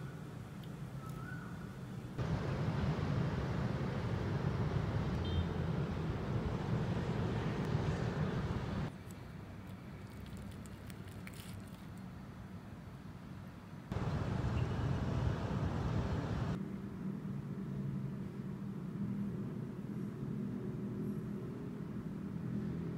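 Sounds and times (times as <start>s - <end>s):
distant city traffic rumble: 0.0s - 22.9s.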